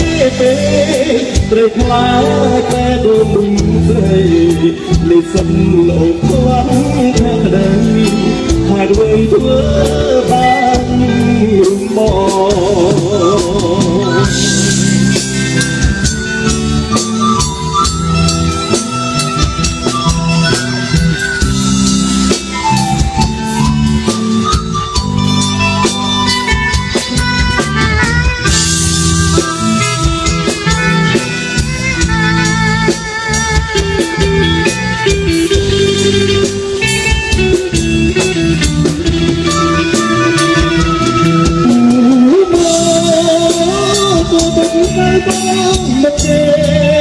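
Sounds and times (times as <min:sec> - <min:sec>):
bass: 0:00.0 - 0:47.0
melodic lead line: 0:00.0 - 0:47.0
steady drum beat: 0:00.0 - 0:47.0.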